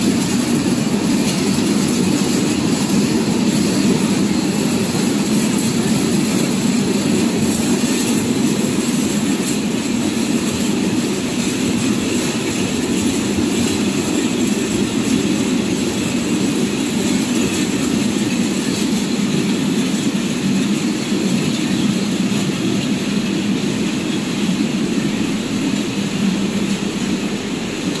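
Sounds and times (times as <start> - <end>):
overhead conveyor running: 0.0 - 28.0.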